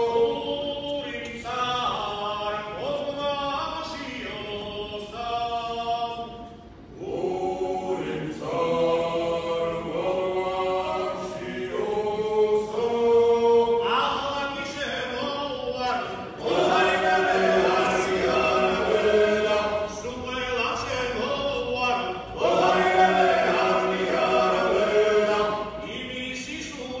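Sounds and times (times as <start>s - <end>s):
male choir singing a cappella: 0.0s - 27.0s.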